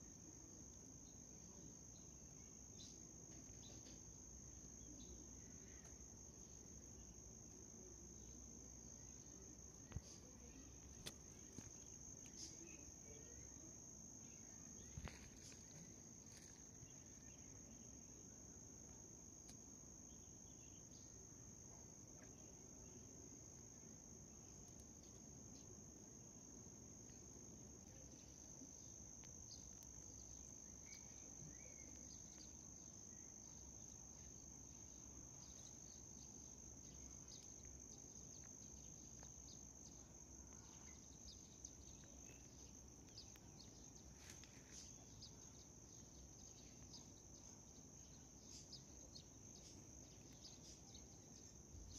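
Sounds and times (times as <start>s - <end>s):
cricket trilling: 0.0s - 51.9s.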